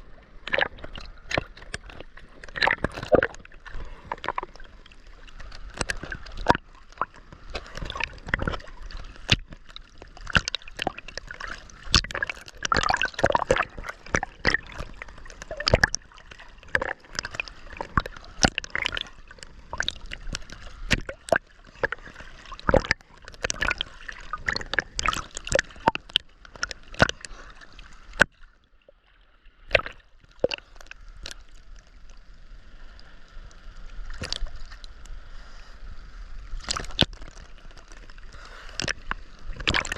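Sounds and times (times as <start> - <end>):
steady water wash: 0.0 - 28.4, 33.0 - 39.9
ocean water splashing: 0.0 - 39.9.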